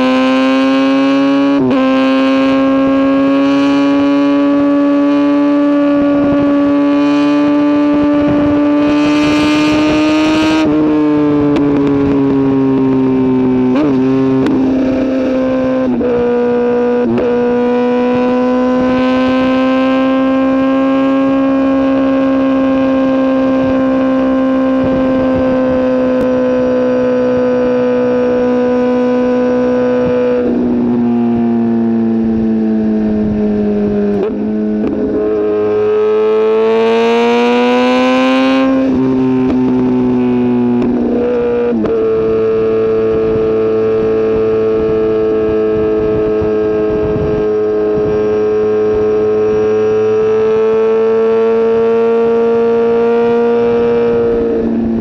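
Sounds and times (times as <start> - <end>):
motorcycle engine at high revs: 0.0 - 55.0
wind noise: 0.0 - 55.0.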